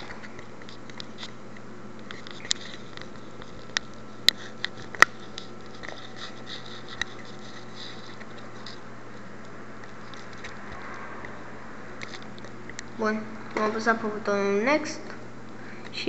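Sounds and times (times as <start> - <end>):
faint hum and hiss: 0.0 - 16.0.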